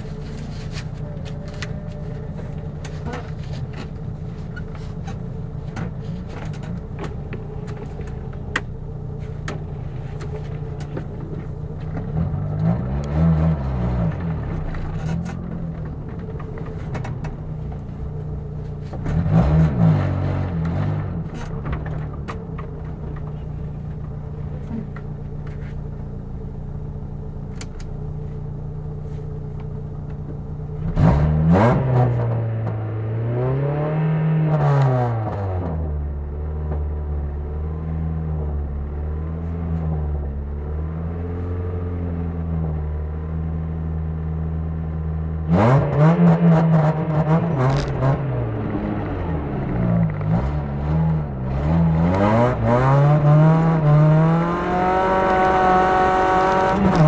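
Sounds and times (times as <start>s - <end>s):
car engine revving: 0.0s - 28.4s, 29.0s - 39.7s, 45.4s - 57.0s.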